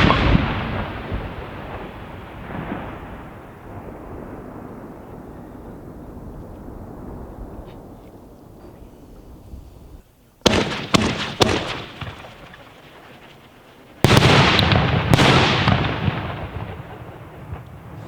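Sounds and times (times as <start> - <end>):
firework bangs: 0.0 - 8.0, 10.4 - 18.0
firework crackling: 0.0 - 8.0, 10.4 - 18.0.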